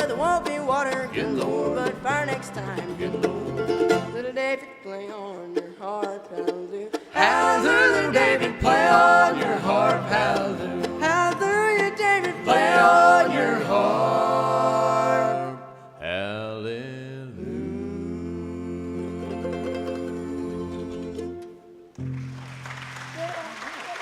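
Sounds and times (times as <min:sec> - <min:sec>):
band singing with guitar and strings: 0:00.0 - 0:21.6.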